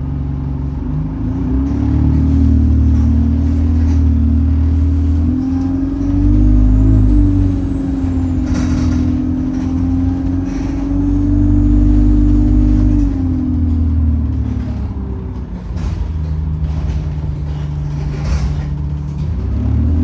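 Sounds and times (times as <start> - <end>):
diesel bus engine droning: 0.0 - 20.0.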